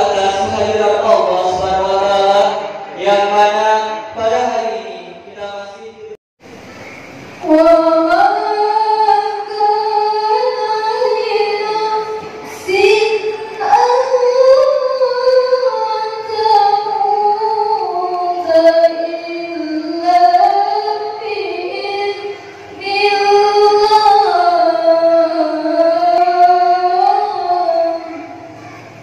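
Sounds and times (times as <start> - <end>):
high voice singing a chant: 0.0 - 6.1, 7.4 - 29.0.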